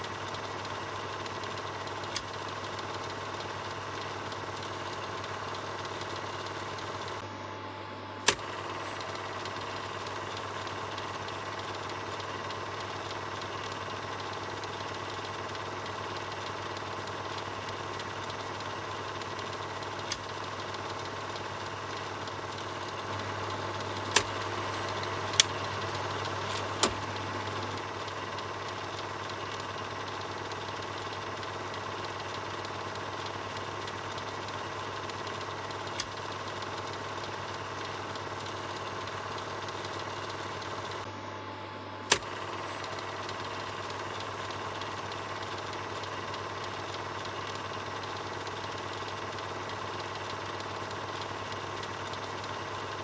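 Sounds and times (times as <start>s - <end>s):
sharp clicks: 0.0s - 7.2s, 8.2s - 41.1s, 42.1s - 53.0s
film projector whirring: 0.0s - 53.0s.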